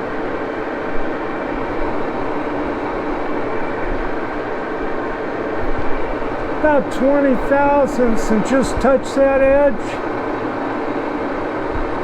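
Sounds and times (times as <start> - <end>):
metal lathe whirring: 0.0 - 12.0.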